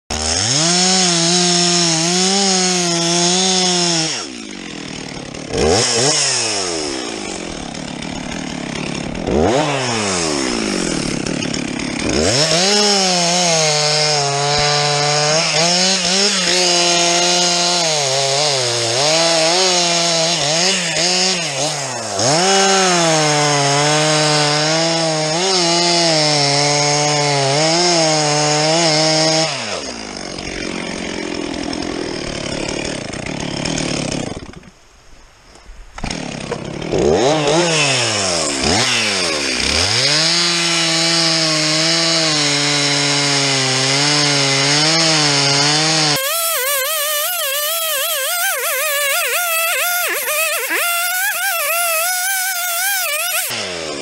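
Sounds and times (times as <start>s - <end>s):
chainsaw revving: 0.1s - 34.7s, 36.0s - 54.0s
chainsaw cutting wood: 0.1s - 34.8s, 35.9s - 54.0s.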